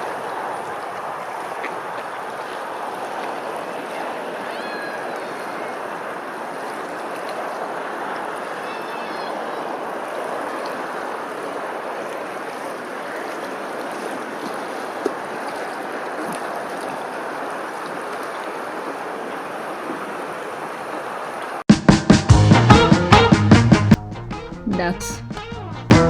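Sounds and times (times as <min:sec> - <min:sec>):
rushing outdoor ambient noise: 0:00.0 - 0:21.6.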